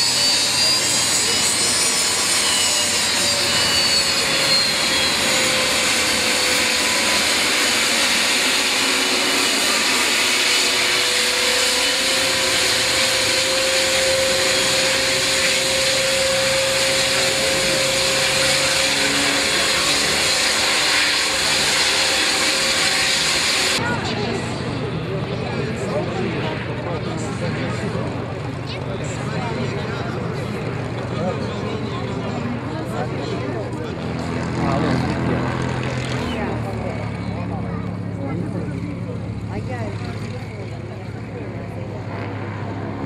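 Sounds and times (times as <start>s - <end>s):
jet engines taxiing: 0.0s - 43.0s.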